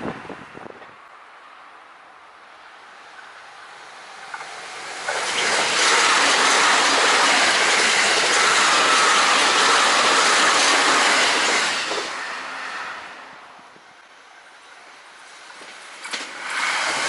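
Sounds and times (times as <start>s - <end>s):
train passing at high speed: 0.0s - 17.0s.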